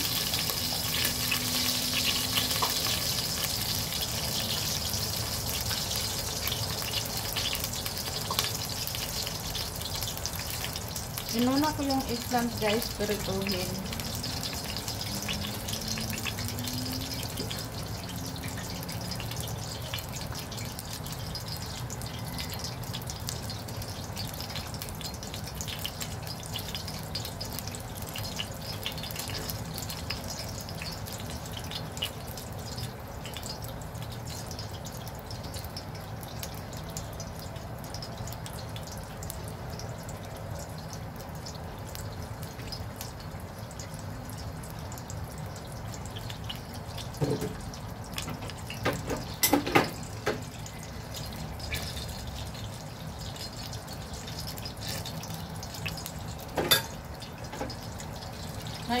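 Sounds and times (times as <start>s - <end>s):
eggplant sizzling in hot oil: 0.0s - 59.0s.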